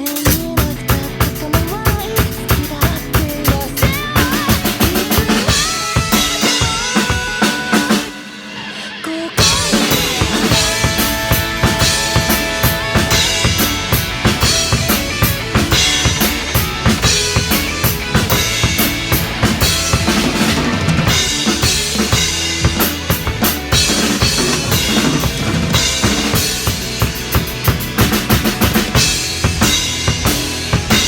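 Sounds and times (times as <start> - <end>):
backing track music: 0.0 - 31.0
drum kit playing rock pattern: 0.0 - 31.0.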